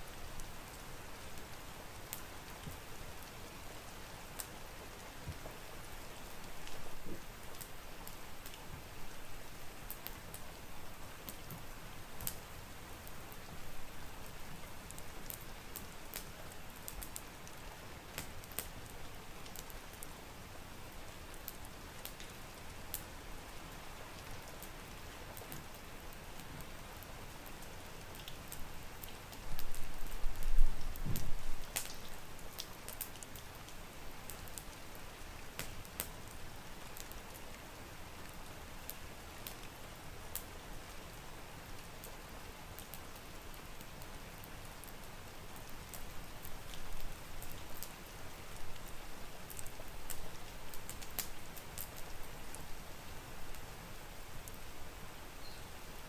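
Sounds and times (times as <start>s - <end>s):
steady rain: 0.0s - 56.0s
wood fire crackles: 0.0s - 56.0s.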